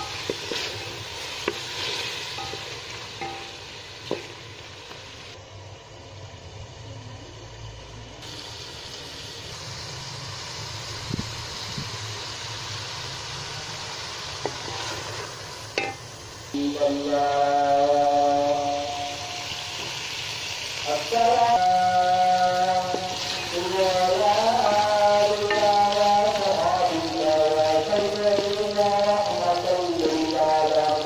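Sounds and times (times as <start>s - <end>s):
food sizzling in a pot: 0.0s - 6.5s, 7.3s - 31.0s.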